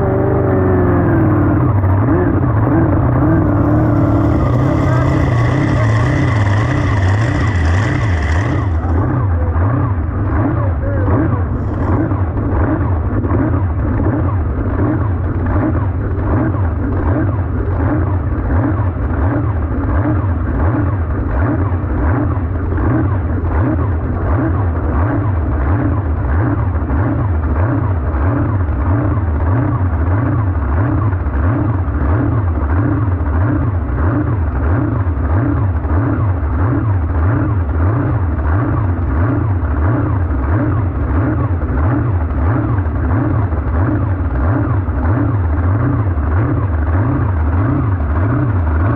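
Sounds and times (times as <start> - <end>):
boat engine running loud: 0.0 - 48.9.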